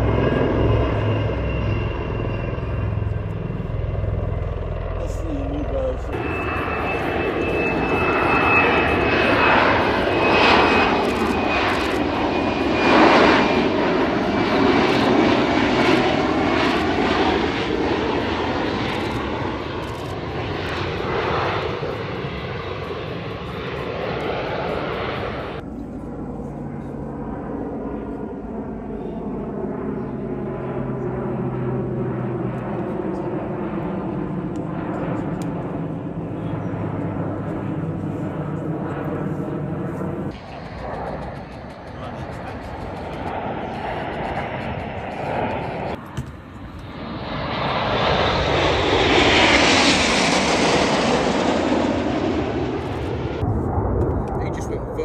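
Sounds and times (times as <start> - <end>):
jet engine roar: 0.0 - 55.0
turboprop aircraft drone: 0.0 - 55.0.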